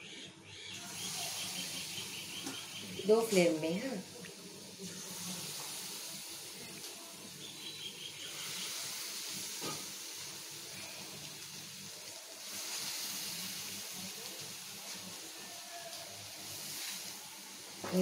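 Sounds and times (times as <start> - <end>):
batter sizzling in hot oil: 0.7 - 18.0.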